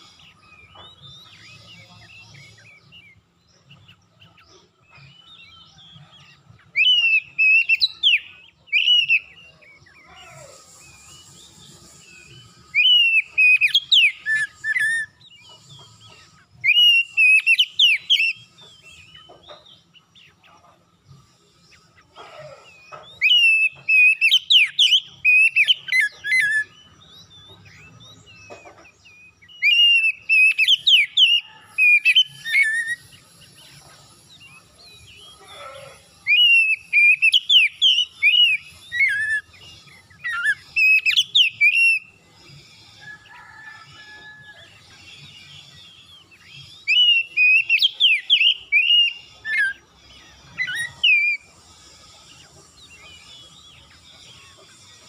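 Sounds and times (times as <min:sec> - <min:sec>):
bird singing whistles and trills: 0:00.0 - 0:20.5, 0:21.7 - 0:55.0.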